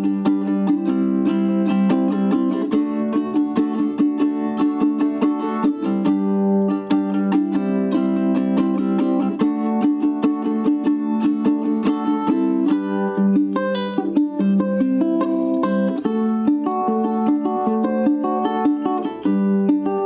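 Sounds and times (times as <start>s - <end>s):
ukulele plucked notes and chords: 0.0s - 20.0s.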